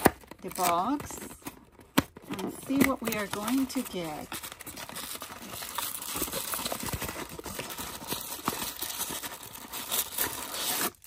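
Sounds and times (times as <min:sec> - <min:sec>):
cardboard box being opened: 0:00.0 - 0:11.0.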